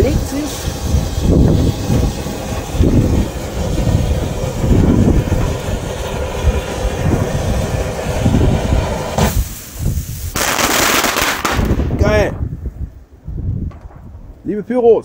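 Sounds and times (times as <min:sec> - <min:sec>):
firework fountain hissing: 0:00.0 - 0:12.9
wind buffeting microphone: 0:00.0 - 0:15.0.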